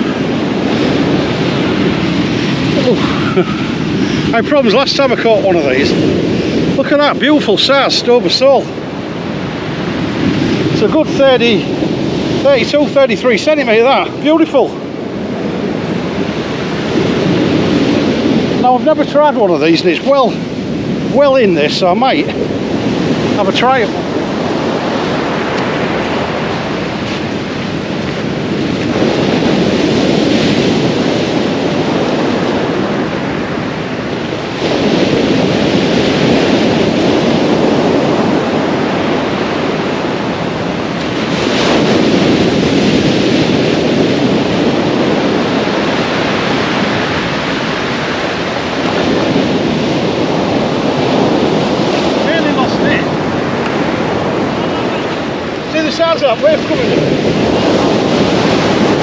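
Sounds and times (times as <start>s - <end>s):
surf breaking on a beach: 0.0s - 59.0s.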